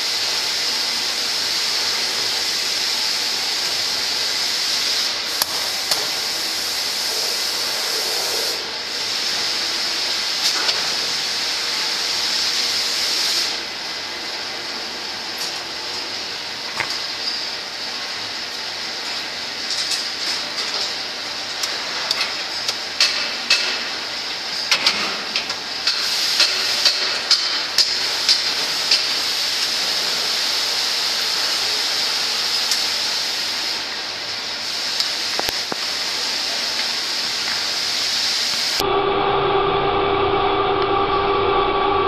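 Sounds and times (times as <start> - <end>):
steady hiss: 0.0 - 38.8.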